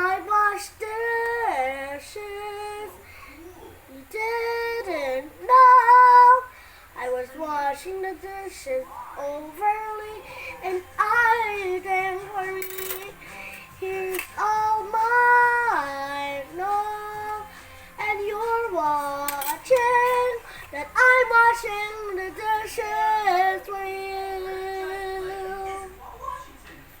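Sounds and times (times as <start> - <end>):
young child singing: 0.0 - 13.2, 13.8 - 26.0.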